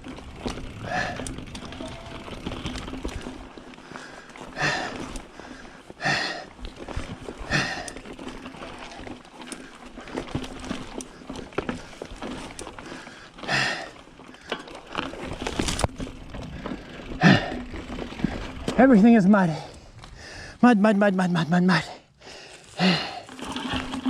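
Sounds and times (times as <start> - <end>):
rider grunting: 0.4 - 14.9, 16.3 - 24.0.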